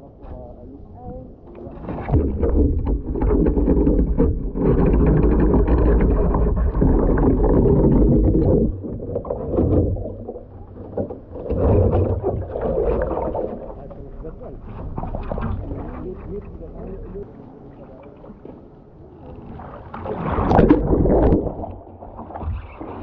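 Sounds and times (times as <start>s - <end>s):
muffled underwater rush: 0.0s - 23.0s
water rushing around kayak: 1.2s - 23.0s.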